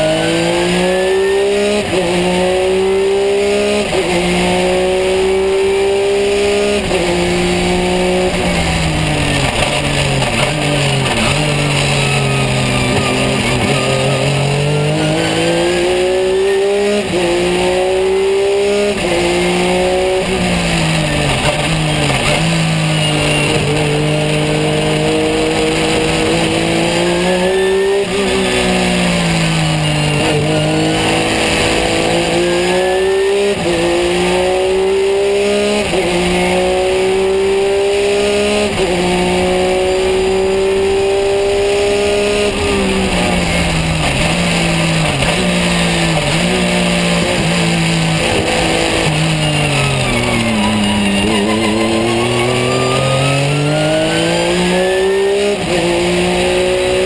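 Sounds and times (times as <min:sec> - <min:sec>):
race car engine at high speed: 0:00.0 - 0:57.0.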